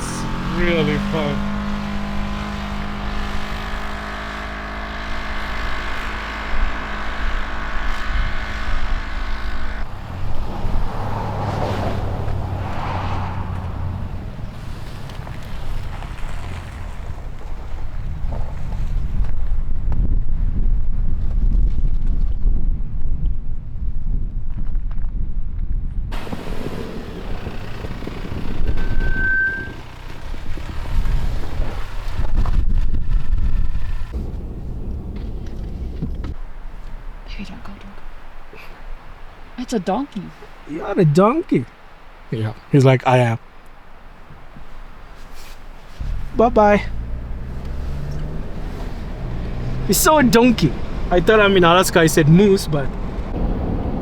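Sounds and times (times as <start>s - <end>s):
vehicle engine drone: 0.0s - 19.9s, 26.1s - 54.0s
wind buffeting microphone: 1.4s - 39.6s, 47.0s - 54.0s.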